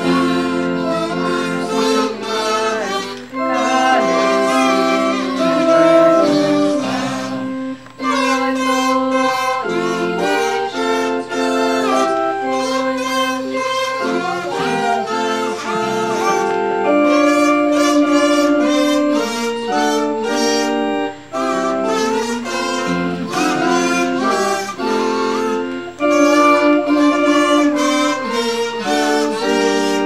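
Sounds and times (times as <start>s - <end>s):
buzzy plastic toy horns: 0.0s - 30.0s
electronic keyboard tune: 0.0s - 30.0s.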